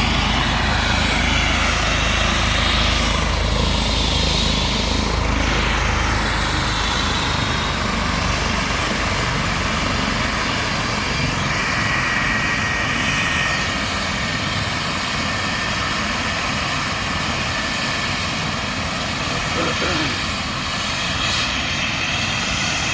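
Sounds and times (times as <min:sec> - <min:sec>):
helicopter rotor and turbine: 0:00.0 - 0:22.9.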